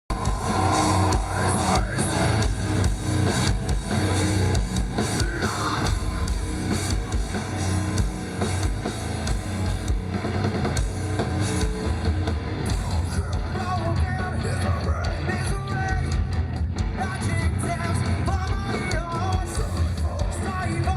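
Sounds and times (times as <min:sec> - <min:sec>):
drum kit pounding: 0:00.0 - 0:20.9
hard rock band playing: 0:00.0 - 0:20.9.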